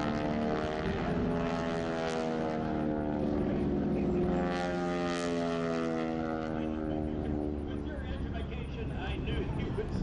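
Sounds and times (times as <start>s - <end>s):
propeller planes droning past: 0.0s - 10.0s.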